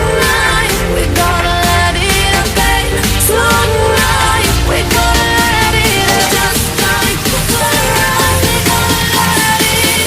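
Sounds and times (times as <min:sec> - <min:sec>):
pop music with electronic beat: 0:00.0 - 0:10.0.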